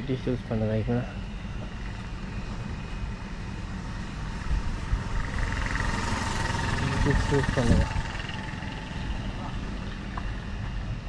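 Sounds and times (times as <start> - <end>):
distant engine whine: 0.0 - 11.0
low outdoor rumble: 0.0 - 11.0.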